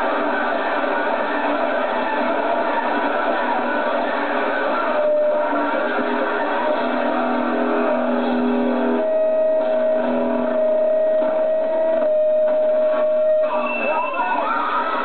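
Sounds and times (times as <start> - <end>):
noise rock band playing live: 0.0 - 14.1.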